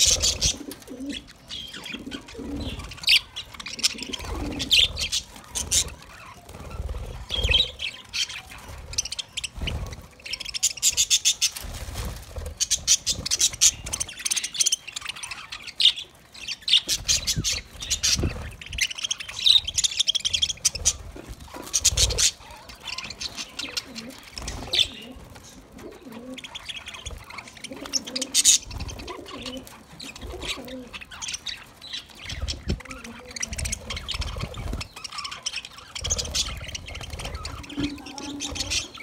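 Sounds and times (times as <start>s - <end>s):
budgerigars chirping and chattering: 0.0s - 39.0s.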